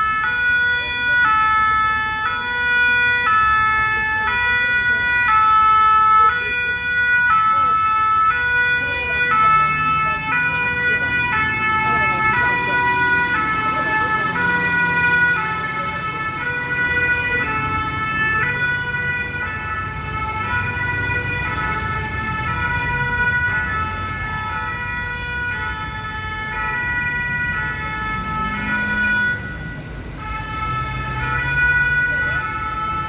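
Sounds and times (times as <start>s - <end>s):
truck engine and road noise: 0.0s - 33.0s
two-tone fire truck siren: 0.0s - 33.0s.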